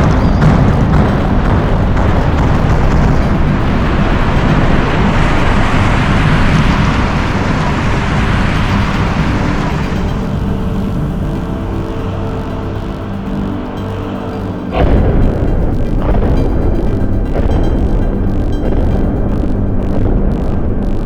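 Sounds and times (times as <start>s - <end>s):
music: 0.0s - 21.0s.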